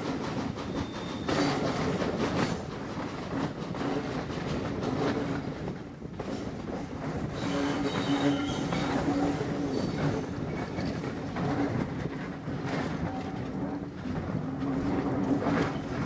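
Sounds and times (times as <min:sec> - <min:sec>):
train wheels clickety-clack on rails: 0:00.0 - 0:16.0.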